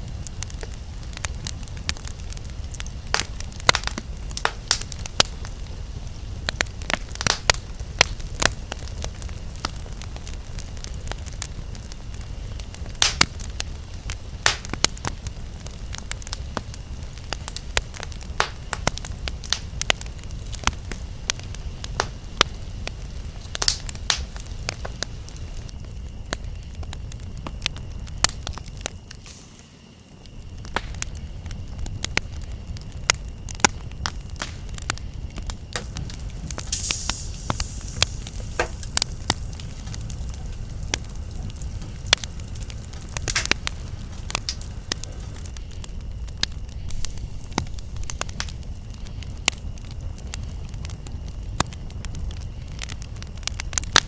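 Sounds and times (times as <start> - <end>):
campfire crackling and popping: 0.0 - 54.0
insect drone: 0.0 - 54.0.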